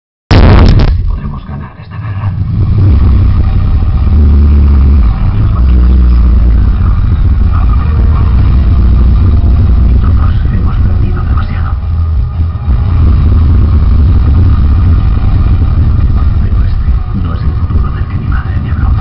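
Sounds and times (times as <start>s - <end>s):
overdriven bass from speakers: 0.3s - 1.5s, 2.1s - 19.0s.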